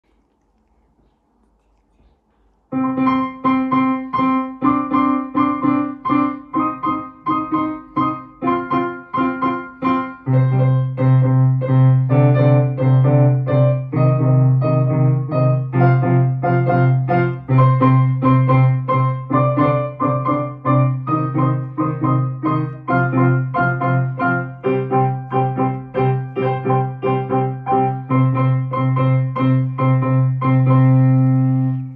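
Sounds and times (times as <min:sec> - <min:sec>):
piano duet: 0:02.7 - 0:31.9.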